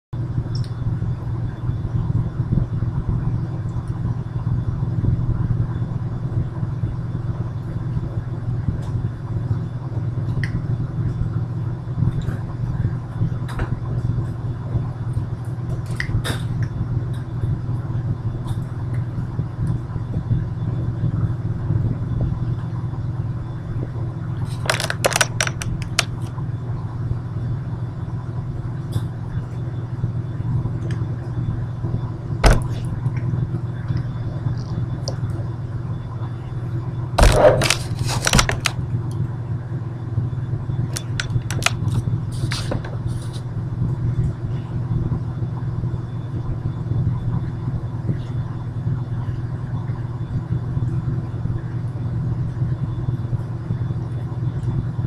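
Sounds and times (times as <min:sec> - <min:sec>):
steady low hum: 0:00.1 - 0:55.0.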